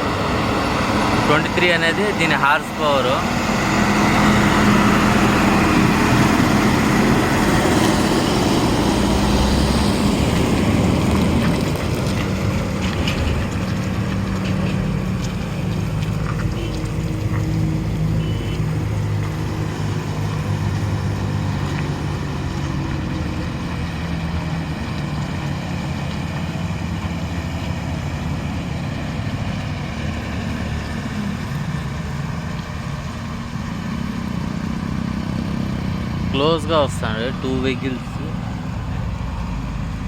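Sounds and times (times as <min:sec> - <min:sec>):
truck diesel engine under load: 0:00.0 - 0:40.0.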